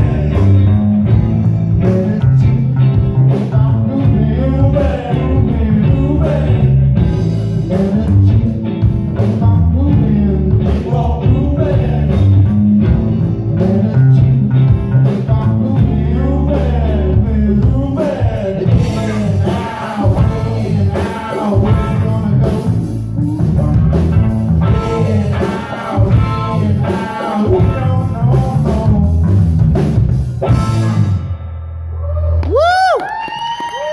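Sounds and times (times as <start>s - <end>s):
drum kit: 0.0s - 31.6s
electric bass: 0.0s - 33.0s
electric guitar: 0.0s - 33.9s.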